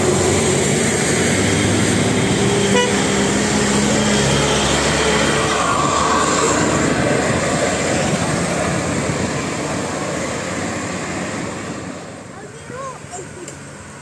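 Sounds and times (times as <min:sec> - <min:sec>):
bus driving past: 0:00.0 - 0:14.0.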